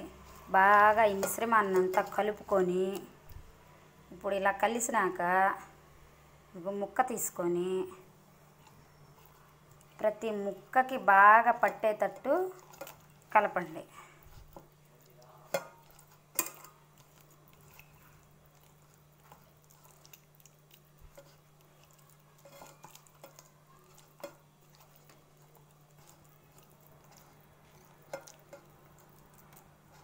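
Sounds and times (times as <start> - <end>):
hand stirring fish in paste: 0.0 - 3.6, 8.2 - 30.0.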